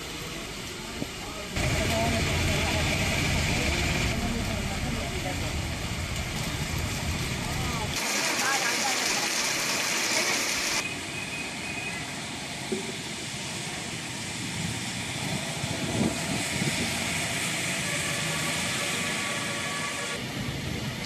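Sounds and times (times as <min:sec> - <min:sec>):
heavy rain hiss: 0:00.0 - 0:10.8, 0:12.1 - 0:21.0
vehicles passing on wet road: 0:00.0 - 0:21.0.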